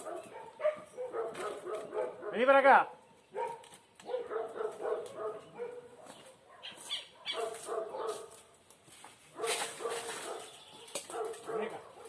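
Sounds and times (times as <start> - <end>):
dog barking: 0.0 - 2.6, 3.3 - 8.4, 9.3 - 12.0.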